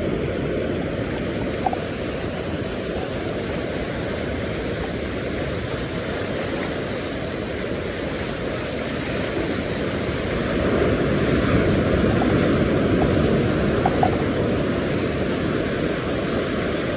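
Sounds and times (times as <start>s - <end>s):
surf on beach: 0.0s - 16.9s
wind: 0.0s - 16.9s.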